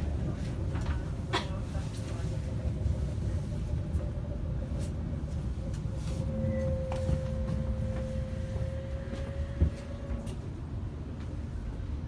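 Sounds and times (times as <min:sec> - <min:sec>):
electric train rumble: 0:02.1 - 0:11.8.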